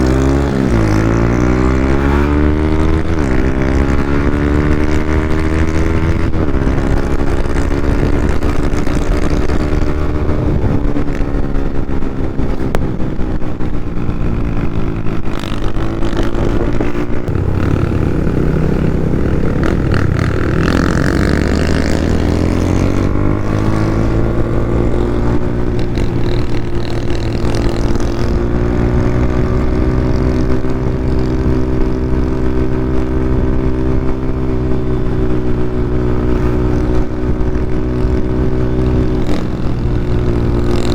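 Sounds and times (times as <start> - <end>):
loud motorcycle engine revving: 0.0 - 40.9.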